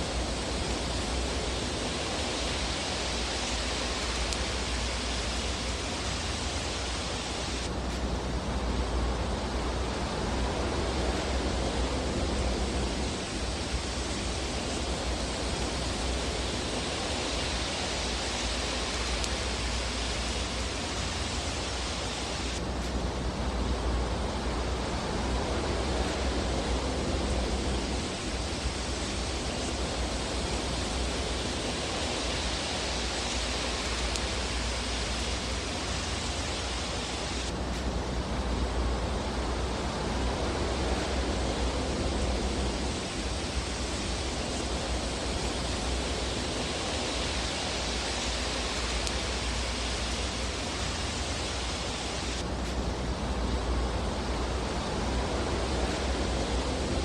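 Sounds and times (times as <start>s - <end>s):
fireplace fire burning: 0.0s - 57.0s.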